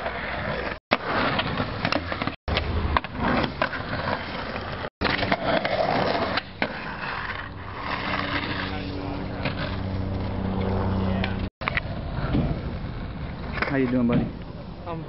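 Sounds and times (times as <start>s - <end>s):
skateboard wheels rolling on concrete: 0.0s - 15.0s.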